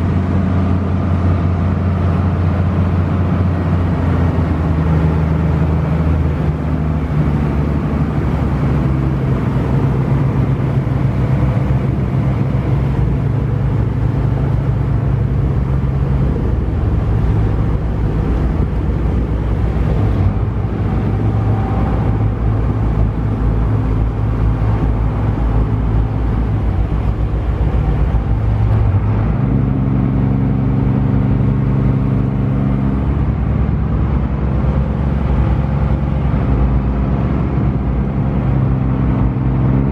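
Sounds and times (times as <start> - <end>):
ferry engine running: 0.0 - 39.9.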